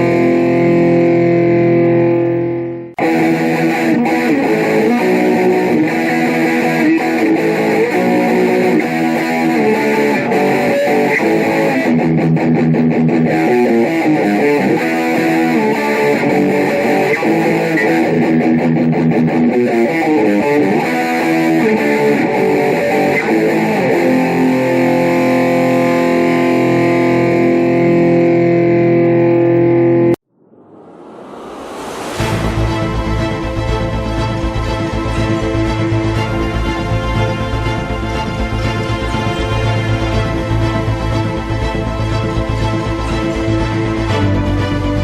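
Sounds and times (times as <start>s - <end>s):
guitar-led music: 0.0s - 30.2s, 32.2s - 45.0s.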